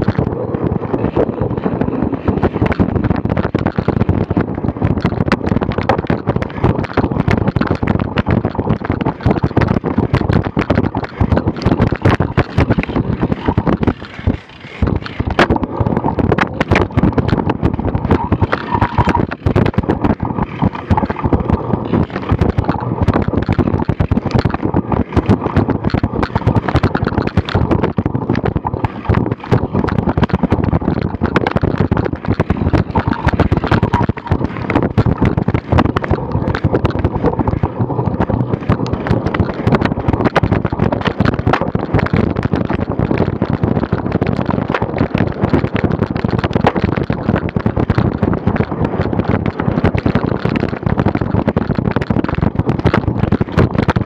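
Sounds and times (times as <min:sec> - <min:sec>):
bike rattling over bumpy grass: 0:00.0 - 0:54.0
wind buffeting microphone: 0:00.0 - 0:54.0.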